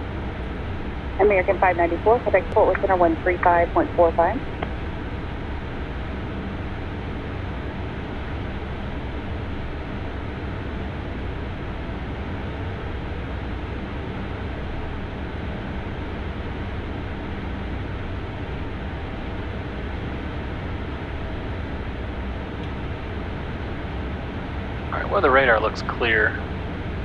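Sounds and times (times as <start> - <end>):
airflow over cockpit: 0.0 - 6.9, 7.5 - 27.0
low jet engine hum: 0.0 - 27.0.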